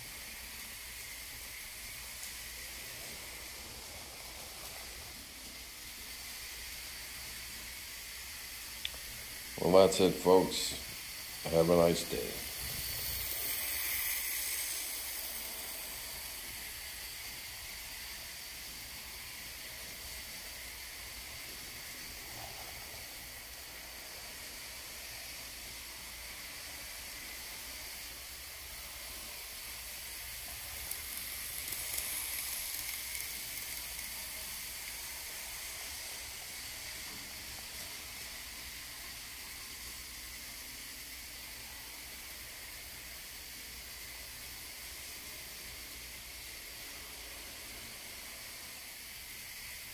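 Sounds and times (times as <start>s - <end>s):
model train whirring on track: 0.0s - 49.9s.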